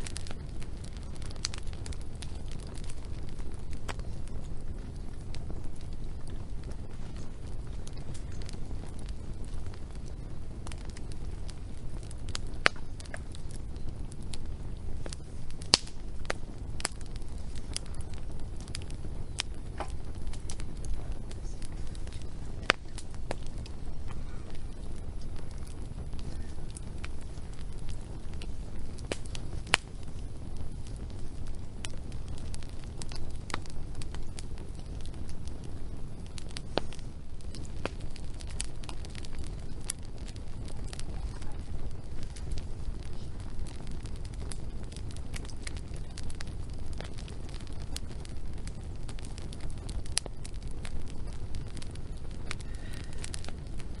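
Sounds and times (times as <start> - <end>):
low steady rumble: 0.0 - 54.0
sharp pops of fire: 0.0 - 54.0
wood fire crackling: 0.0 - 54.0.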